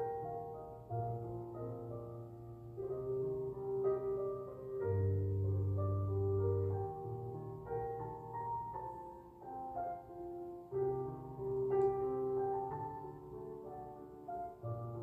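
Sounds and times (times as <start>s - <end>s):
gentle piano tune: 0.0s - 15.0s.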